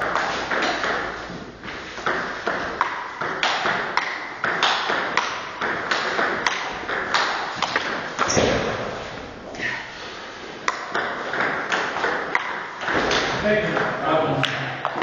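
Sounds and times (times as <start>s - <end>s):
ball bouncing on table: 0.0s - 1.1s, 2.0s - 8.9s, 10.6s - 15.0s
table tennis ball hitting rackets: 0.0s - 9.2s, 10.5s - 15.0s.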